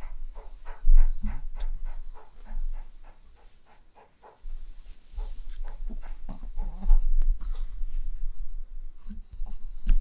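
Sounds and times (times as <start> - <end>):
dog panting rapidly: 0.0 - 10.0.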